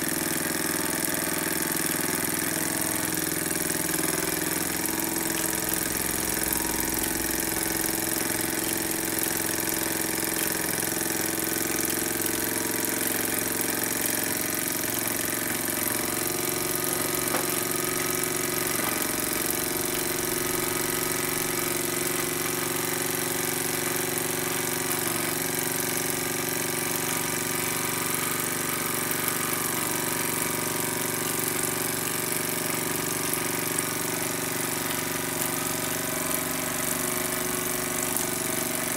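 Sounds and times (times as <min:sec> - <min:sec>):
model steam engine running: 0:00.0 - 0:38.9.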